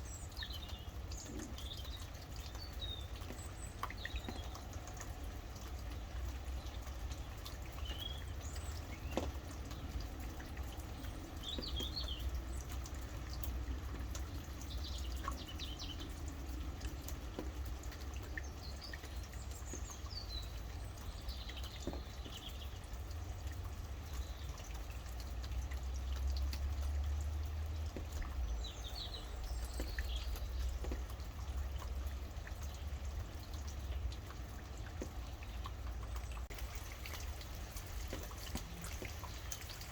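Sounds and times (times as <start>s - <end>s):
birds chirping: 0.0s - 25.2s, 27.8s - 39.9s
rain falling and dripping: 0.0s - 39.9s.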